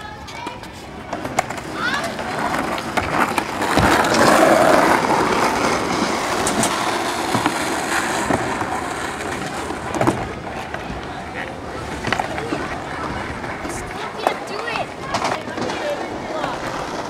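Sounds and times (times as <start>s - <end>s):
skateboard wheels rolling on asphalt: 0.0s - 17.0s
skateboard knocks: 1.1s - 17.0s.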